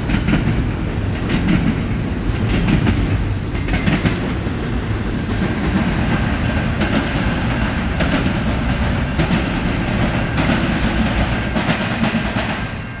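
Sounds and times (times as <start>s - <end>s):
wheels clacking over rail joints: 0.0s - 12.7s
freight train rolling past: 0.0s - 13.0s.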